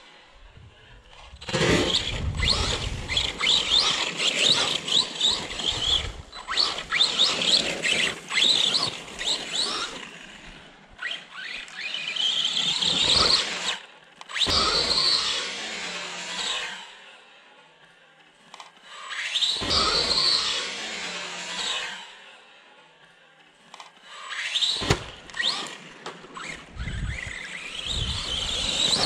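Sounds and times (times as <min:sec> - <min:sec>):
electric motor whining: 0:00.5 - 0:13.8, 0:14.4 - 0:17.0, 0:19.0 - 0:22.2, 0:24.2 - 0:29.0.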